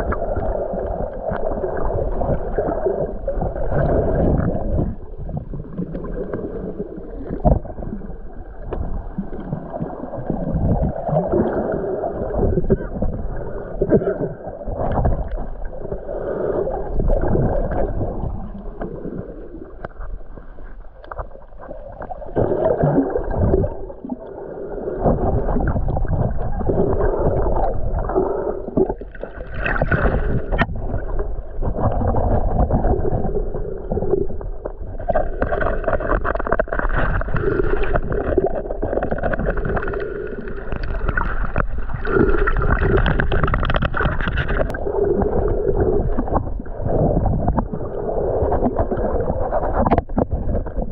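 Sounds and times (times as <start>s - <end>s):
muffled water sloshing underwater: 0.0s - 50.9s.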